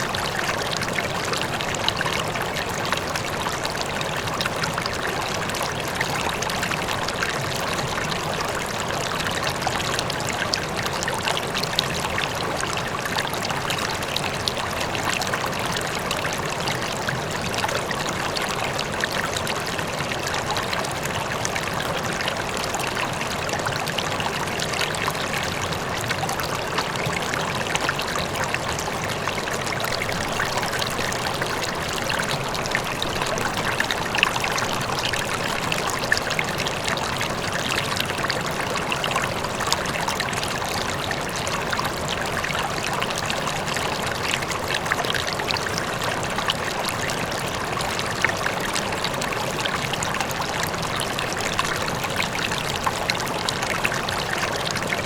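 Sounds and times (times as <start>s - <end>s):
distant waterfall: 0.0s - 54.9s
river water splashing over rocks: 0.0s - 55.0s.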